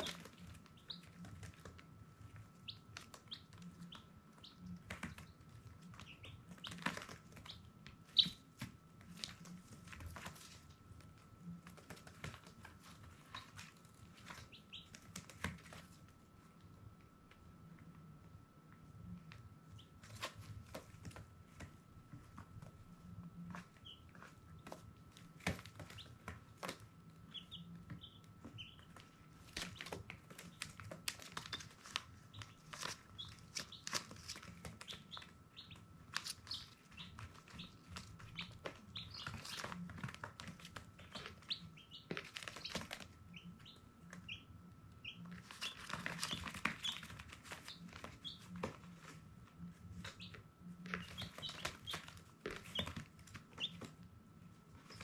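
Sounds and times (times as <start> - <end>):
baby chicks peeping: 0.0 - 55.0.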